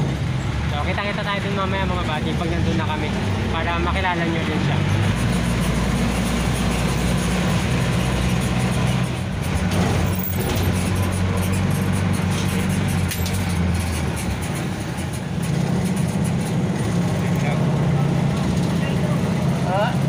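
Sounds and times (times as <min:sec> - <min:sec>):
road noise: 0:00.0 - 0:20.0
vehicle engine running: 0:00.0 - 0:20.0.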